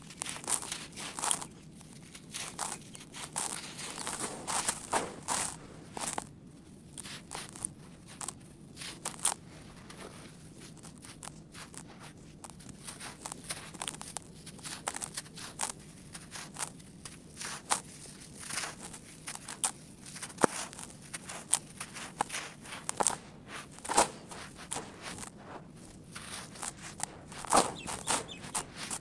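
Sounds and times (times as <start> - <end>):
hands crumbling dry earth: 0.0 - 29.0.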